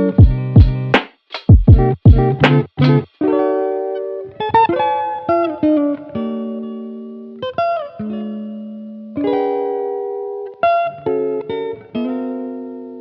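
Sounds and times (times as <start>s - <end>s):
guitar chords ringing out: 0.0s - 1.0s, 1.6s - 13.0s.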